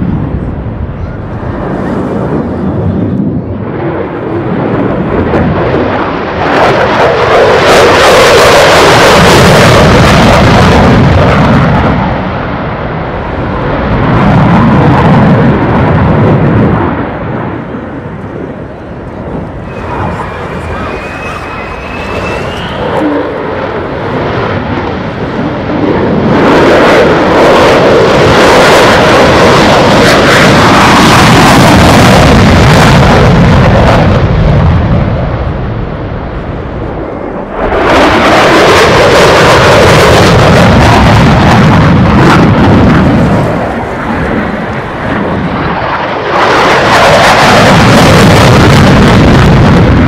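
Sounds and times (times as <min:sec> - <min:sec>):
fighter jet afterburner roar: 0:00.0 - 0:50.0.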